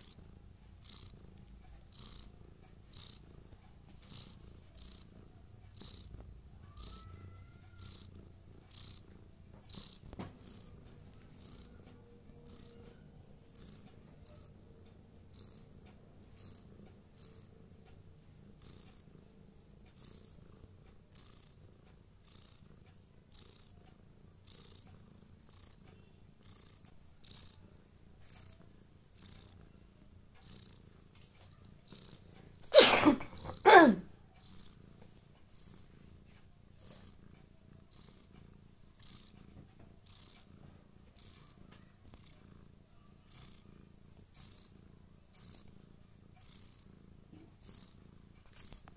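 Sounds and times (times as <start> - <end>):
cat purring: 0.0 - 48.9
faint regular ticks: 0.0 - 48.9.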